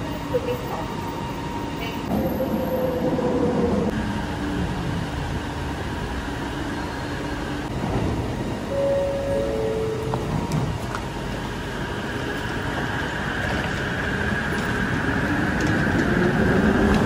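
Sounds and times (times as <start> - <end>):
train humming: 0.0 - 17.0.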